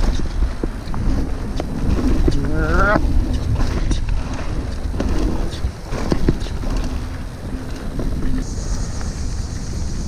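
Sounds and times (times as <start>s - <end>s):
bike knocks and rattles: 0.0s - 8.5s
wind rumbling on microphone: 0.0s - 10.0s.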